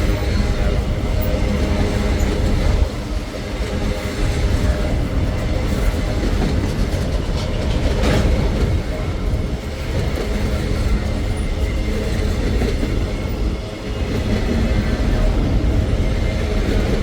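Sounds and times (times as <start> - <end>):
freight train wagons rumbling: 0.0 - 17.0
steel wheels clacking on rails: 0.0 - 17.0.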